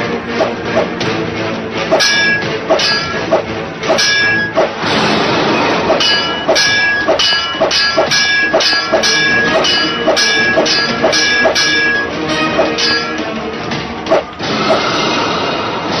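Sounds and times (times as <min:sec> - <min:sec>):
fight scene soundtrack music: 0:00.0 - 0:16.0
metallic clanging strikes: 0:01.9 - 0:14.9.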